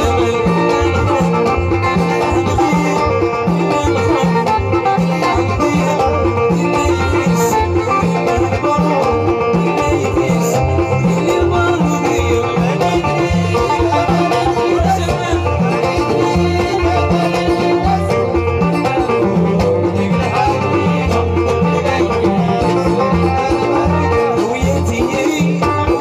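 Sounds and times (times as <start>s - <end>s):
amplified banjo melody: 0.0s - 26.0s
low repeating bass line: 0.0s - 26.0s.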